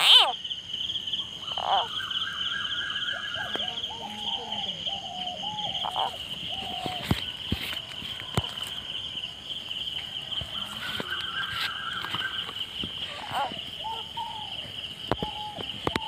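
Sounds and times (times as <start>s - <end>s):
frogs calling: 0.0s - 16.0s
night insects trilling: 0.0s - 16.0s.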